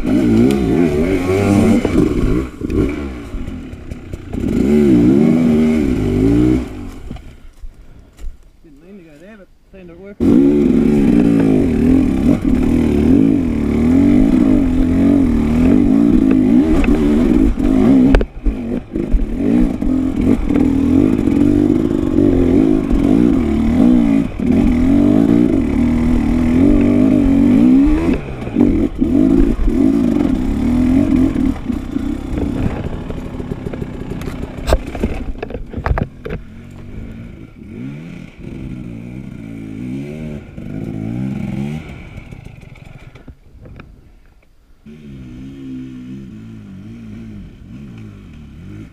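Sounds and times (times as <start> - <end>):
dirt bike engine revving: 0.0 - 7.4, 10.0 - 43.3, 44.8 - 48.9.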